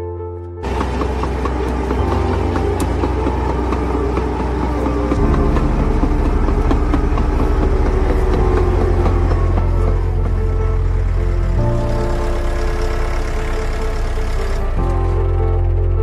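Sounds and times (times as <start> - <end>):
cartoon engine rumbling: 0.6 - 16.0.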